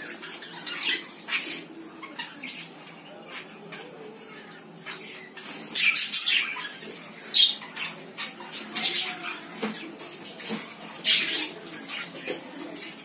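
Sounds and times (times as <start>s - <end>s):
budgerigars chirping: 0.0s - 12.4s.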